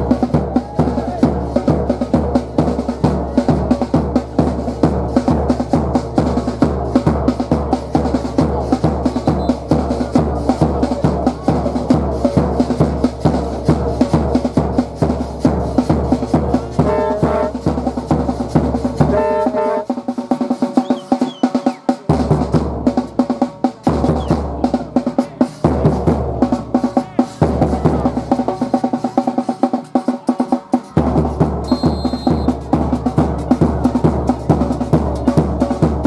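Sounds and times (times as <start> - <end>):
fast snare and bass drum beat: 0.0 - 36.0.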